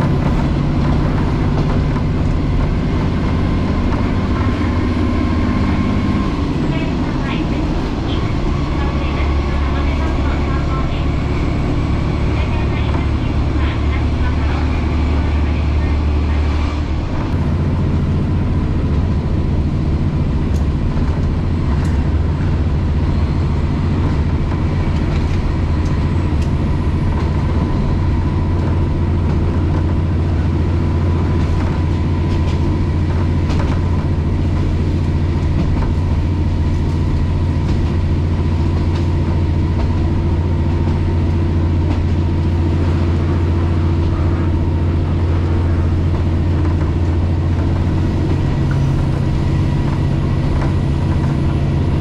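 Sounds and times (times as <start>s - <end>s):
train engine drone: 0.0s - 52.0s.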